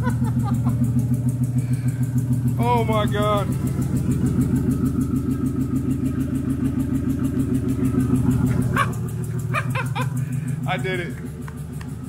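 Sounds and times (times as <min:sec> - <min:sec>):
loud car engine running: 0:00.0 - 0:12.0.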